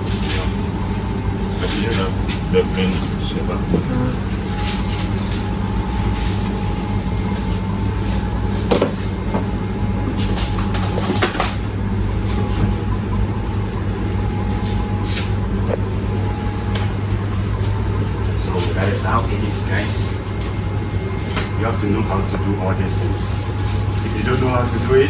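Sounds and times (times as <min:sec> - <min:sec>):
low hum of kitchen machinery: 0:00.0 - 0:25.0
thin steady whine: 0:00.0 - 0:25.0.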